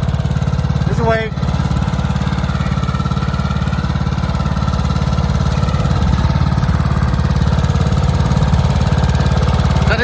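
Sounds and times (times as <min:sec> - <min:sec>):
lawnmower engine running: 0:00.0 - 0:10.0.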